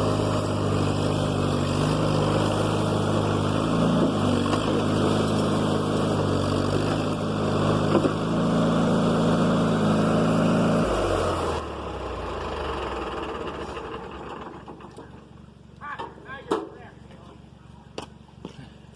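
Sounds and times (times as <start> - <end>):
backhoe engine running: 0.0 - 18.9.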